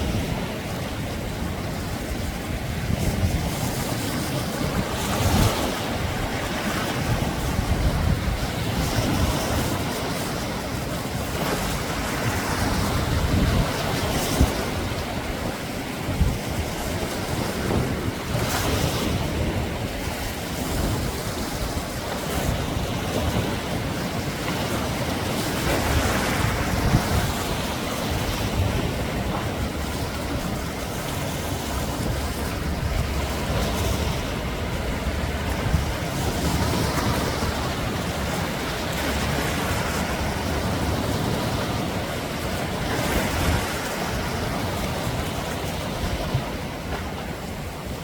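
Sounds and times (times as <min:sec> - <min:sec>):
sea waves breaking on beach: 0:00.0 - 0:48.0
wind buffeting microphone: 0:00.0 - 0:48.0.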